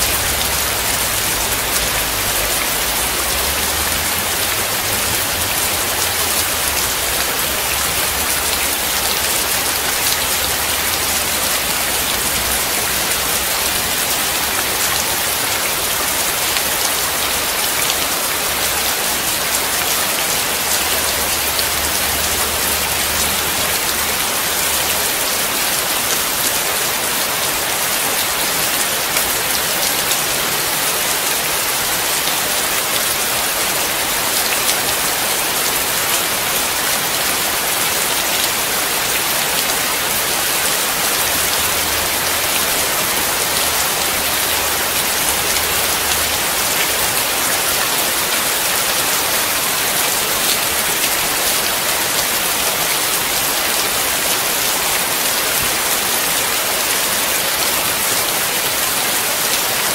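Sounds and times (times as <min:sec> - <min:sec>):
steady rain on hard surface: 0:00.0 - 0:59.9.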